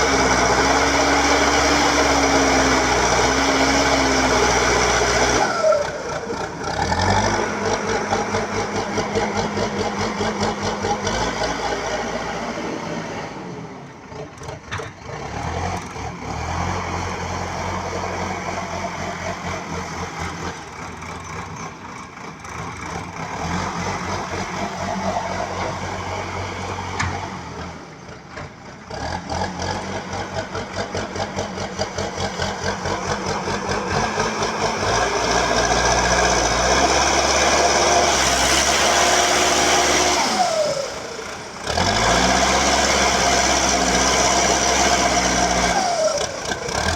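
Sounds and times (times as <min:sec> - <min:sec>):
backhoe diesel engine running: 0:00.0 - 0:46.9.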